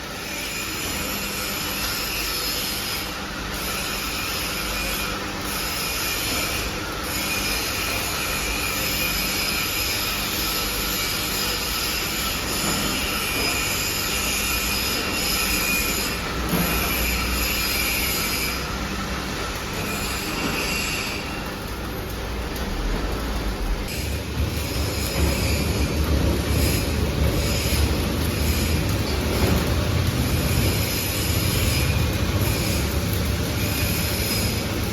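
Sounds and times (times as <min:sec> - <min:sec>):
forging press metallic whine: 0:00.0 - 0:34.9.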